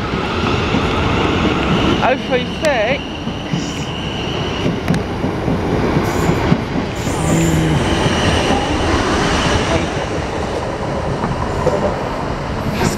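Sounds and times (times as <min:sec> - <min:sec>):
train wheels rolling on rail: 0:00.0 - 0:12.9.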